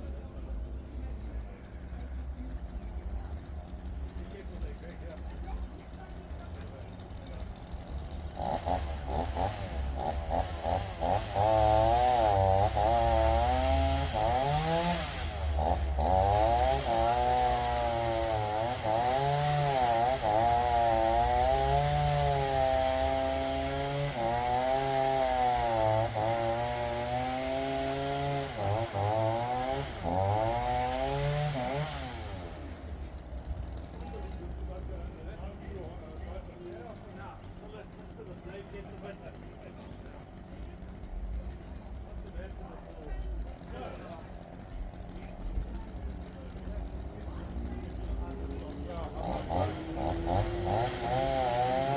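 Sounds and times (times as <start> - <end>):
chainsaw cutting logs: 2.5 - 51.9.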